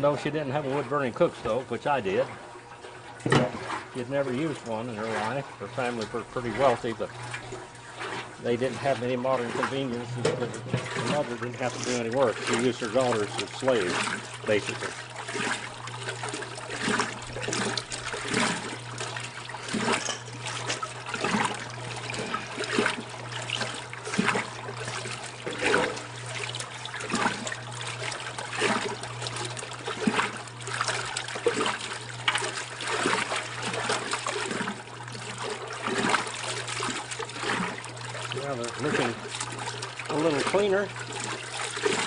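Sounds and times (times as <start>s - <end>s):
washing machine motor hum: 0.0s - 42.0s
water sloshing in tub: 0.0s - 42.0s.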